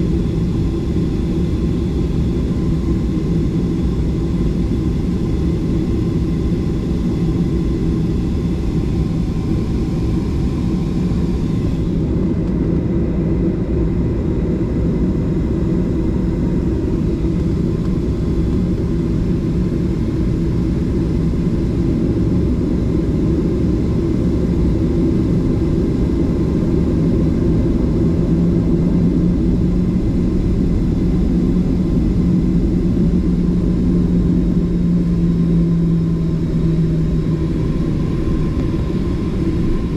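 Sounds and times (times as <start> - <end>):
jet engines drone in cabin: 0.0 - 39.9.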